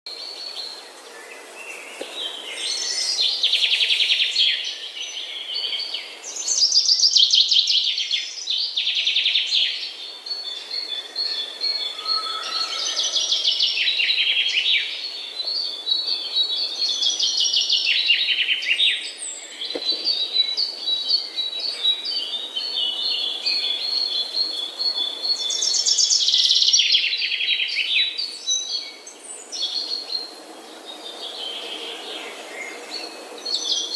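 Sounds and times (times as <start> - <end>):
flock of birds chirping: 0.1 - 33.9.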